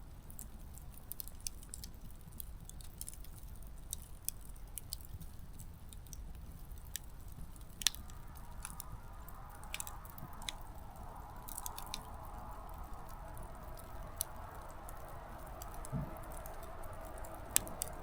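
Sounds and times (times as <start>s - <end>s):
campfire crackling: 0.0s - 18.0s
soft hiss: 0.0s - 18.0s.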